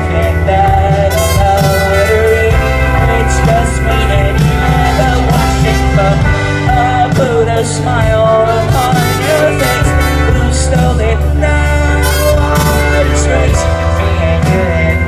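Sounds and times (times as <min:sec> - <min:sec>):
heavy bass line: 0:00.0 - 0:15.0
live rock band playing: 0:00.0 - 0:15.0
person singing: 0:00.0 - 0:15.0.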